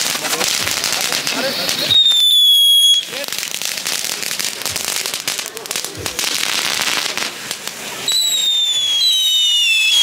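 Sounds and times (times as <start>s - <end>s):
firework fountain hissing and crackling: 0.0s - 10.0s
whistling fireworks: 0.0s - 10.0s.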